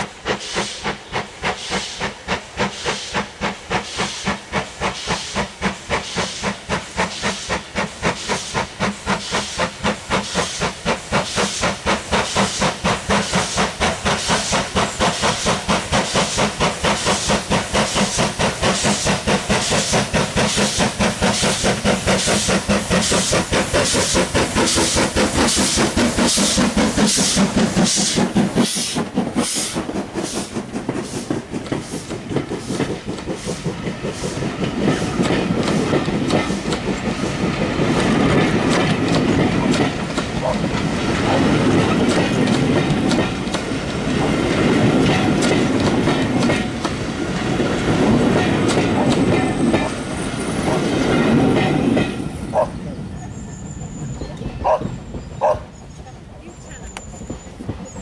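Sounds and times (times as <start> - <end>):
coach wheels clacking on rail joints: 0.0 - 58.0
steam locomotive exhaust beats: 0.0 - 58.0.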